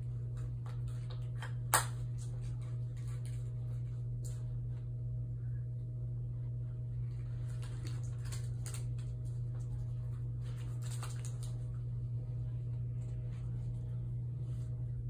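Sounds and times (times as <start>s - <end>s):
low ventilation hum: 0.0s - 15.0s.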